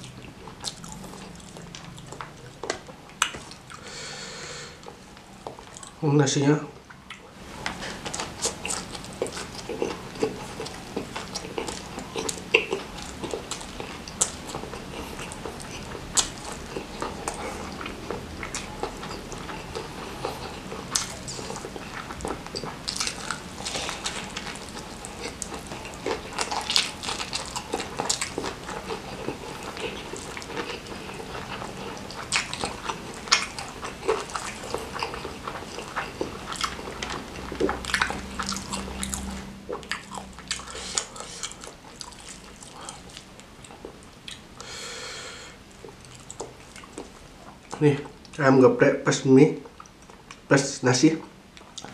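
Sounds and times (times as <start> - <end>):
crunchy chewing: 0.0 - 3.9, 4.7 - 6.0, 6.8 - 44.8, 45.7 - 48.4.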